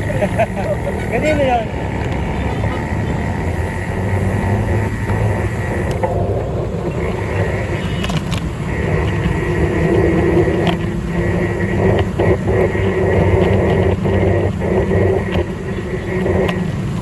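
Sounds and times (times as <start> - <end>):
low hum: 0.0 - 17.0
rumble of wheels and wind: 0.0 - 17.0.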